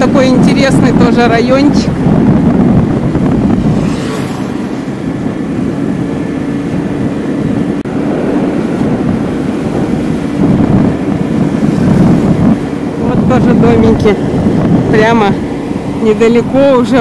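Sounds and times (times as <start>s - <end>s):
motorbike engine running: 0.0s - 17.0s
wind and road noise: 0.0s - 17.0s.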